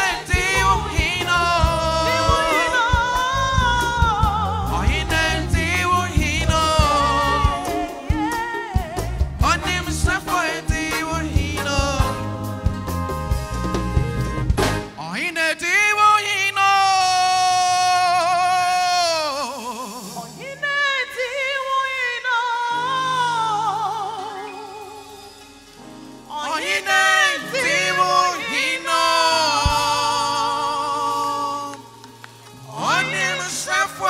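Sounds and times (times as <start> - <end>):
person singing with vibrato: 0.0 - 13.2, 15.0 - 25.5, 26.2 - 32.0, 32.6 - 34.0
soft musical accompaniment: 0.0 - 34.0.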